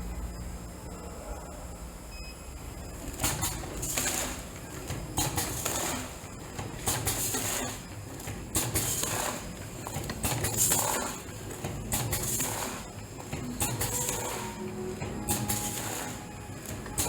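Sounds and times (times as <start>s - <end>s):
packaging machine hissing rustle: 3.0s - 17.0s.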